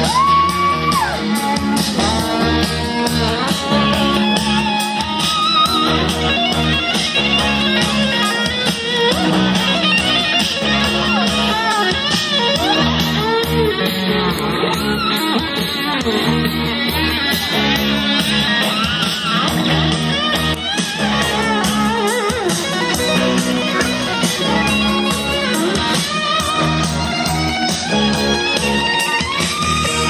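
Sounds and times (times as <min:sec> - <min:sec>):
music with guitars over speakers: 0:00.0 - 0:30.0.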